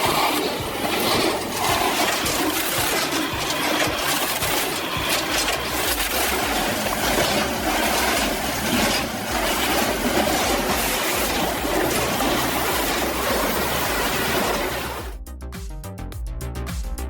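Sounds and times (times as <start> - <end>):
heavy machinery running: 0.0 - 15.2.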